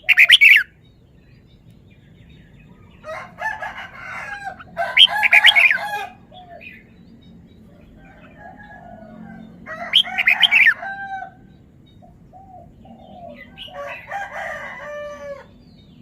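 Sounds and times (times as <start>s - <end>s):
bird warbling song: 0.0s - 16.0s.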